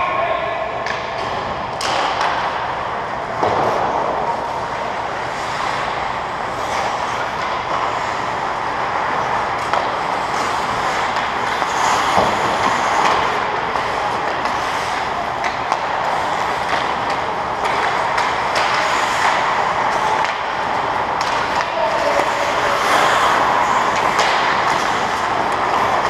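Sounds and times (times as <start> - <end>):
hockey sticks and puck clicking: 0.8 - 26.0
skates rushing on ice: 0.8 - 26.0.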